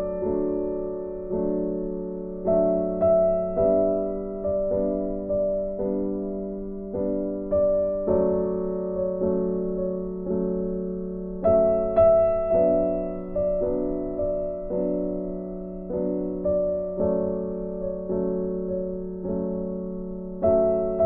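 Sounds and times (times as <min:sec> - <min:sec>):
gentle keyboard melody: 0:00.0 - 0:21.0.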